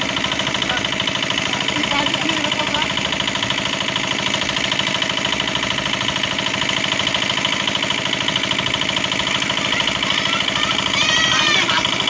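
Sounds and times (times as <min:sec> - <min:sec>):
small engine knocking: 0:00.0 - 0:12.0.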